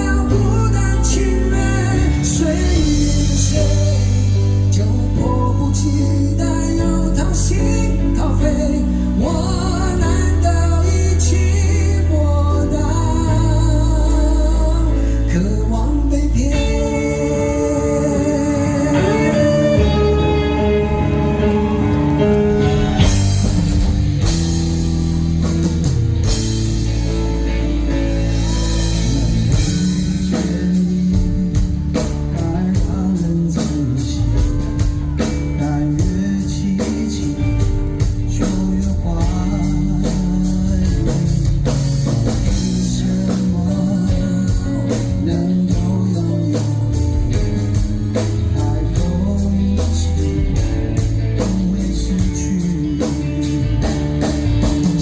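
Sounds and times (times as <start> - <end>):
steady drum beat: 0.0 - 11.4, 18.7 - 55.0
live rock band playing: 0.0 - 55.0.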